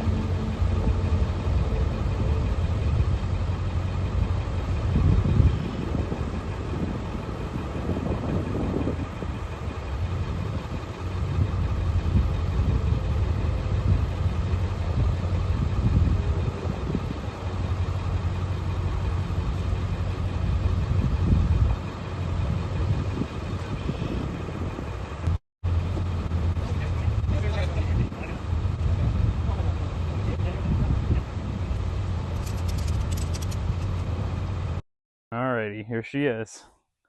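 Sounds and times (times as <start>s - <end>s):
vehicle engine and road rumble: 0.0s - 34.8s.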